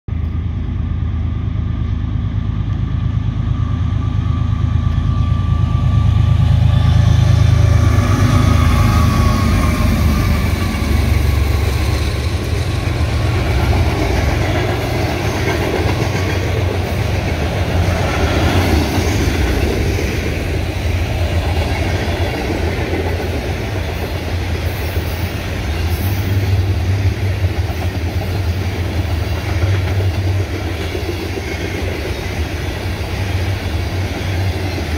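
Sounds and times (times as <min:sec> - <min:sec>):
diesel locomotives passing: 0:00.1 - 0:34.9
train wheels on rails: 0:00.1 - 0:34.9.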